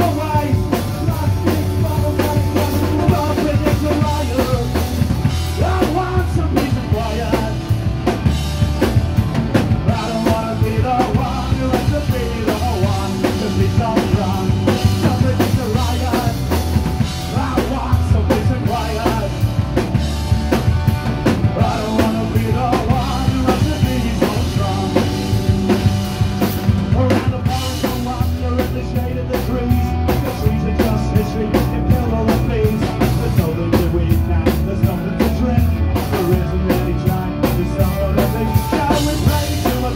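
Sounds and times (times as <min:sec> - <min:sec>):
man singing into microphone: 0:00.0 - 0:04.9, 0:05.5 - 0:07.7, 0:09.8 - 0:16.6, 0:17.2 - 0:19.4, 0:21.5 - 0:25.4, 0:26.8 - 0:39.9
bass guitar: 0:00.0 - 0:39.9
drum kit beat: 0:00.0 - 0:39.9
electric guitars: 0:00.0 - 0:39.9.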